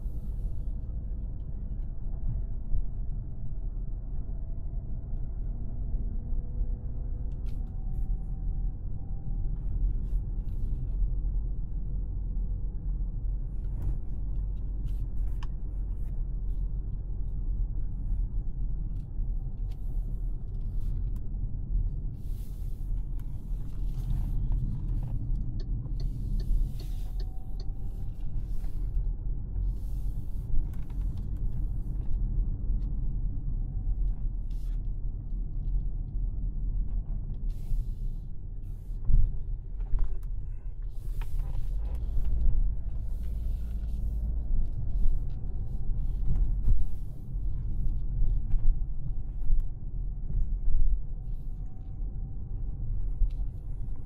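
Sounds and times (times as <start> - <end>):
car engine and road noise rumble: 0.0 - 54.0.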